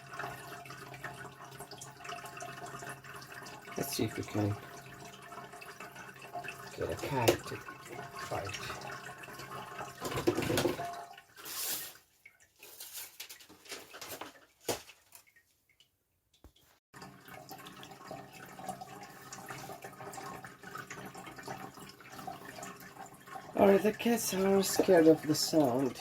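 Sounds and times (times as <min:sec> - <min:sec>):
water trickling and dripping: 0:00.0 - 0:26.0.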